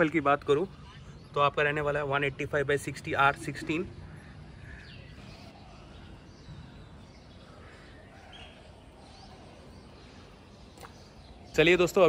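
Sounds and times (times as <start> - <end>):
faint bird chirps: 0.0 - 12.0
faint outdoor background noise: 0.0 - 12.0.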